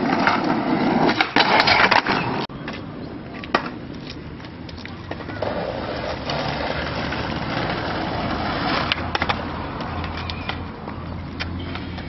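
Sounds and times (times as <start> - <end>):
skateboard clacks: 0.0 - 12.0
wheels rolling over concrete: 0.0 - 12.0.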